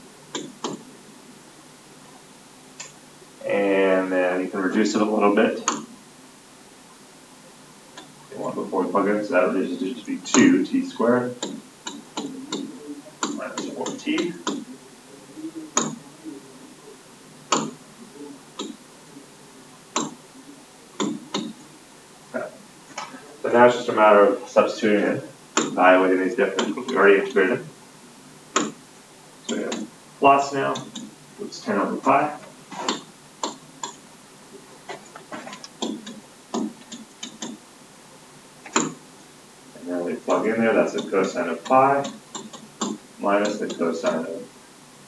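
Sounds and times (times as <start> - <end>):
faint low murmur: 0.0 - 45.0.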